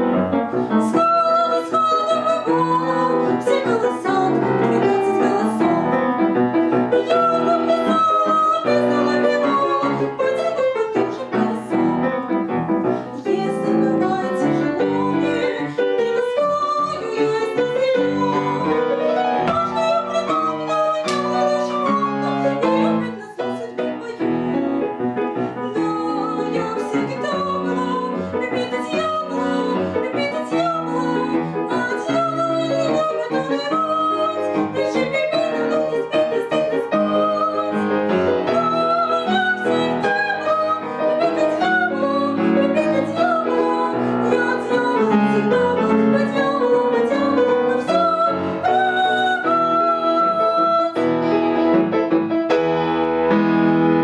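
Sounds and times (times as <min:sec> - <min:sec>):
woman singing: 0:00.0 - 0:51.7
piano playing: 0:00.0 - 0:54.0.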